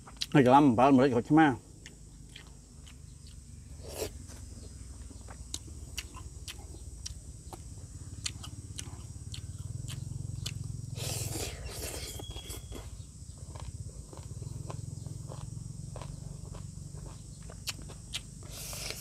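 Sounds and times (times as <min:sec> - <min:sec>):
chewing: 0:01.8 - 0:19.0.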